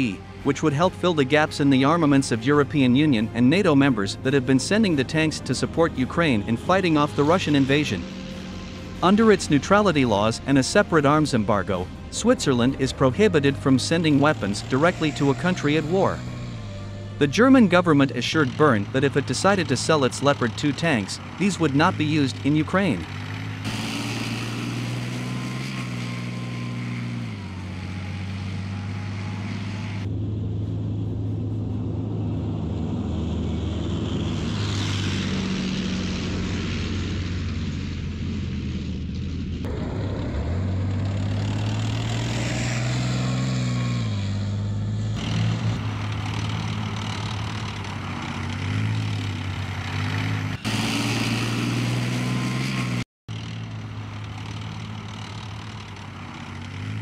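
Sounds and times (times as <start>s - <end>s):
tank diesel engine revving: 0.0s - 57.0s.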